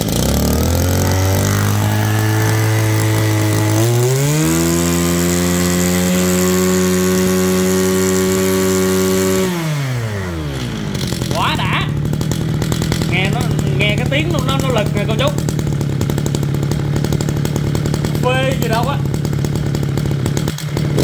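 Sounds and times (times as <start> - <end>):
brushcutter engine running: 0.0 - 21.0.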